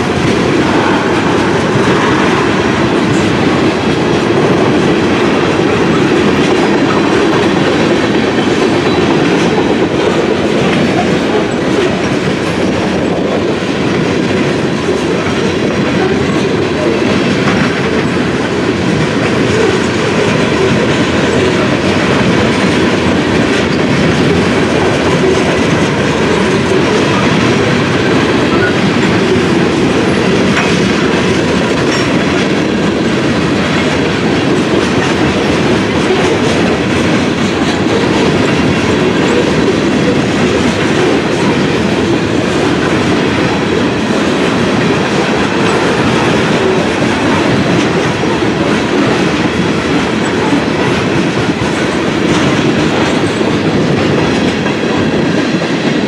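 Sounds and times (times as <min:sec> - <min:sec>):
freight train rolling past: 0:00.0 - 0:56.0
steel wheels clattering on rails: 0:00.0 - 0:56.0.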